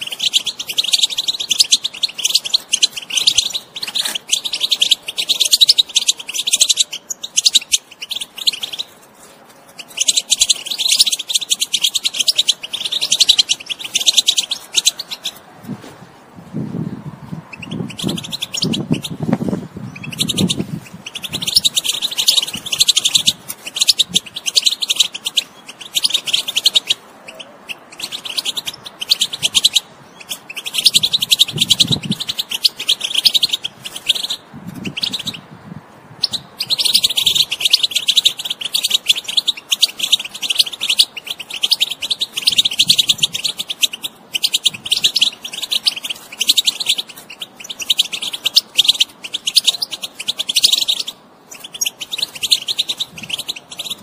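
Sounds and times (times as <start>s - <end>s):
goldfinch twittering song: 0.0s - 9.1s, 9.7s - 15.4s, 17.4s - 35.5s, 36.2s - 54.0s.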